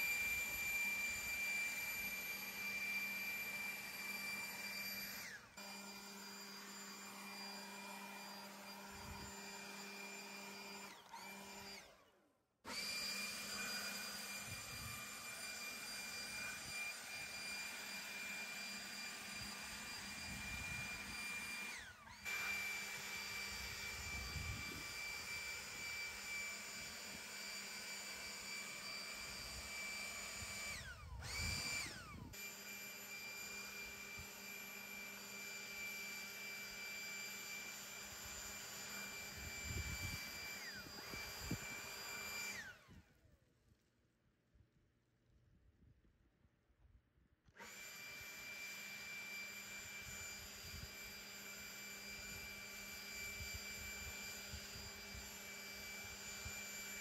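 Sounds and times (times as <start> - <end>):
electric blower motor whining: 0.0 - 43.3, 47.5 - 57.0.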